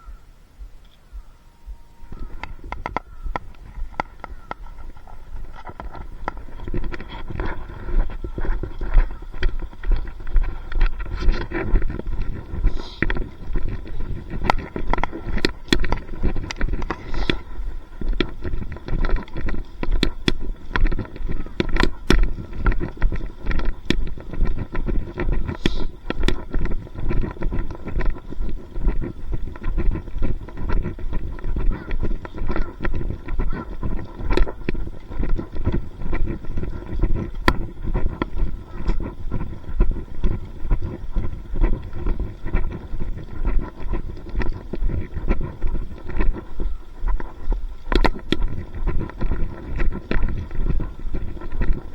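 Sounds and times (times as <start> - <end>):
footsteps walking: 0.0 - 51.9
low rumbling wind: 0.0 - 51.9
microphone handling noise: 0.0 - 51.9
sharp clicks: 1.8 - 46.5.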